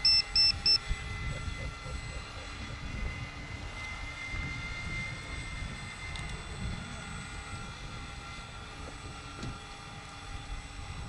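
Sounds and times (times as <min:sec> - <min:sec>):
model plane motor: 0:00.0 - 0:11.0
wind rumble on microphone: 0:00.5 - 0:11.0.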